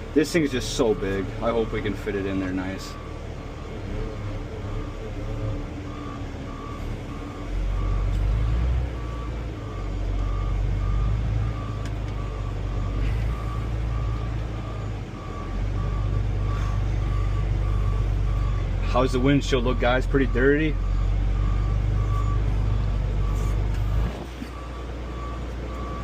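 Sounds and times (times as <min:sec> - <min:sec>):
heavy vehicle engine running: 0:00.0 - 0:26.0
warning alarm beeping: 0:00.1 - 0:26.0.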